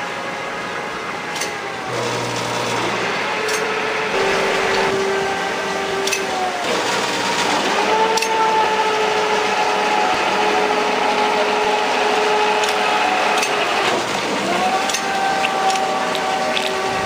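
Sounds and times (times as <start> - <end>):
metal planer drive whining: 0.0 - 17.0.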